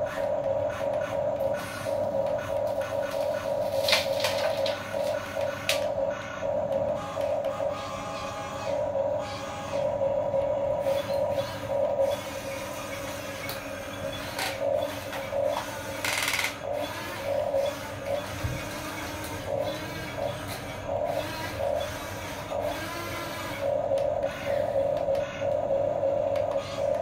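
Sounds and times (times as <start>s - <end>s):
small electric motors whining: 0.0s - 6.4s, 7.0s - 10.0s, 10.8s - 25.7s, 26.4s - 27.0s.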